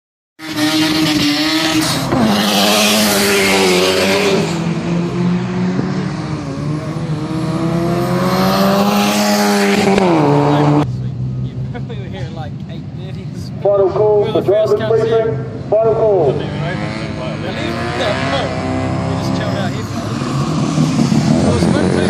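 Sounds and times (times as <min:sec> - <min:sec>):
race car engine running hard: 0:00.4 - 0:22.0.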